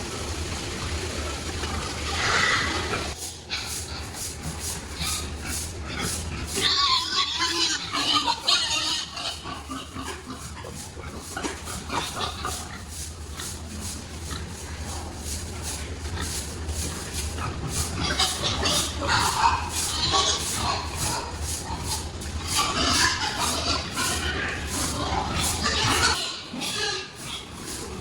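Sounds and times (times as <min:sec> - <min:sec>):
steady low hum: 0:00.0 - 0:28.0
pigs grunting and squealing: 0:01.0 - 0:28.0.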